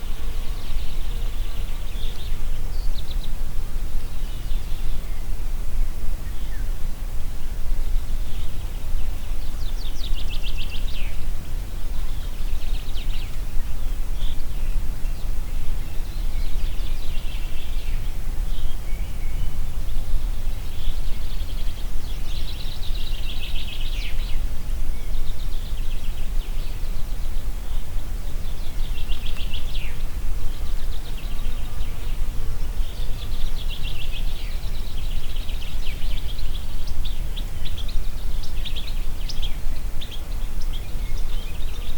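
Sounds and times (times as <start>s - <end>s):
songbirds singing trills: 0.0s - 41.9s
wind through trees: 0.0s - 41.9s.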